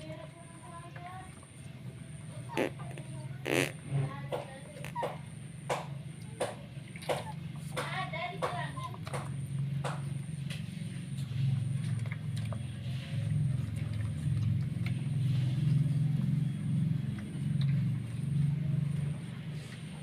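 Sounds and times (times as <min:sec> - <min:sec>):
low engine-like rumble: 0:00.0 - 0:20.0.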